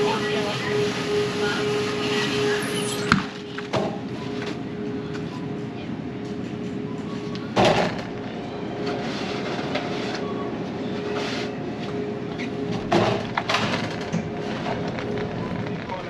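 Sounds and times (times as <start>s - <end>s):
refrigeration hum: 0.0s - 16.0s.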